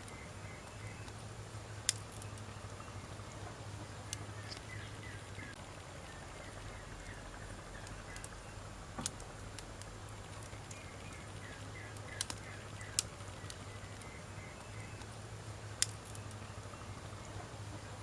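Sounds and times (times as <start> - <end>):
sharp pops from burning logs: 0.0 - 17.6
wood fire crackling: 0.0 - 18.0.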